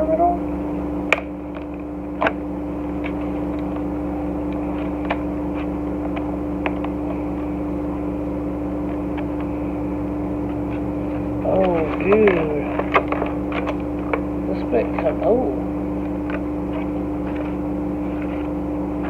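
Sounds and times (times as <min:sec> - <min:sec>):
droning hum: 0:00.0 - 0:19.0.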